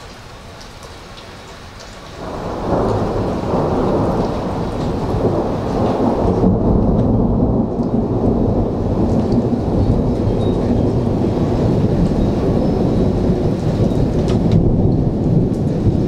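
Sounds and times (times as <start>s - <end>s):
steady rain: 0.0s - 16.0s
thunder rumbling: 2.2s - 16.0s.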